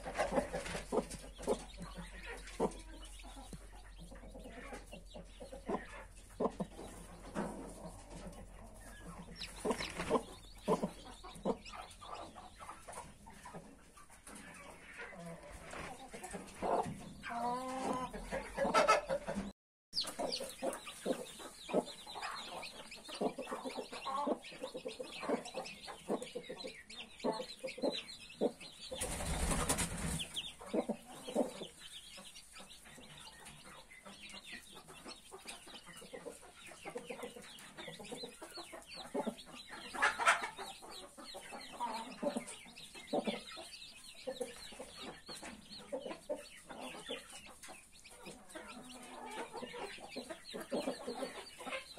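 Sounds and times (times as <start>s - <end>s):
chicks peeping: 0.0s - 51.9s
hen clucking: 0.0s - 51.9s.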